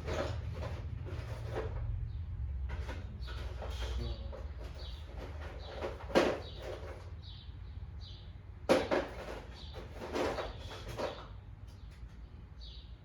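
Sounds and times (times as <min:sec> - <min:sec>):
parts knocking and clattering: 0:00.0 - 0:07.2, 0:08.6 - 0:12.3.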